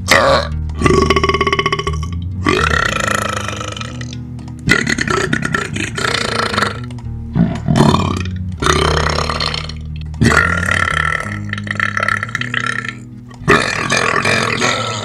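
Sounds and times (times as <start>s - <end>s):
man burping loudly: 0.1s - 15.0s.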